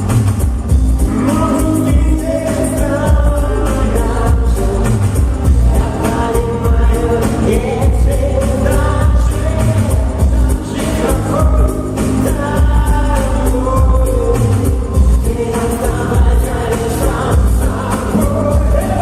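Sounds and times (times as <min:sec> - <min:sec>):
person singing: 0:01.0 - 0:19.0.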